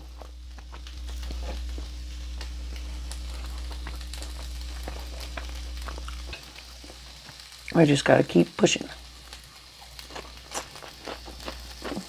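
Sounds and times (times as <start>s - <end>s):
wet chewing crackles and clicks: 0.0s - 7.8s, 9.3s - 12.0s
steady low hum: 0.0s - 12.0s.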